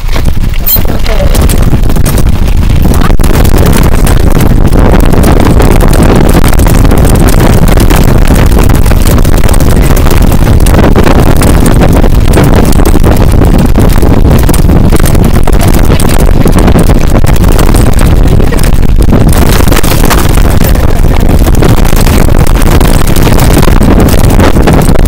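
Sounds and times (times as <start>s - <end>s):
trailer wheels rumbling on pavement: 0.0s - 25.0s
wind buffeting microphone: 0.0s - 25.0s.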